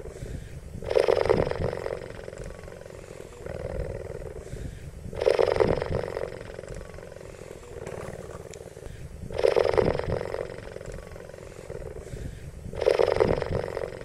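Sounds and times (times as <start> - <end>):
rasping breaths: 0.0 - 14.0.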